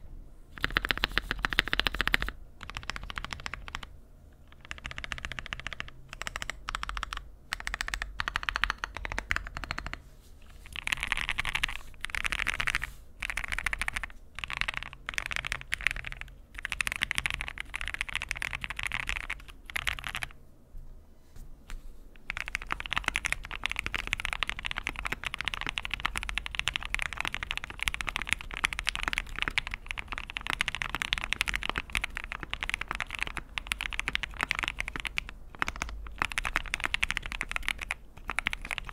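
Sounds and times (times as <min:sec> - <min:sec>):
typing on mechanical keyboard: 0:00.6 - 0:03.9, 0:04.5 - 0:10.0, 0:10.7 - 0:20.4, 0:22.2 - 0:38.9.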